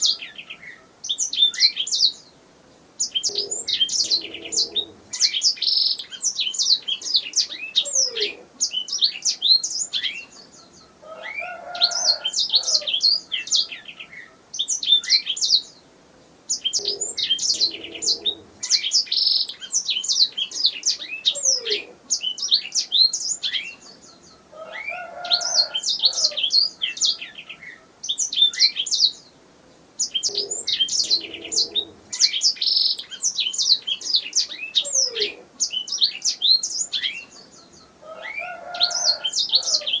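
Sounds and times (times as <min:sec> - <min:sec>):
canary singing trills: 0:00.0 - 0:02.4, 0:03.0 - 0:29.4, 0:30.0 - 0:40.0
faint low bird calls: 0:00.0 - 0:40.0.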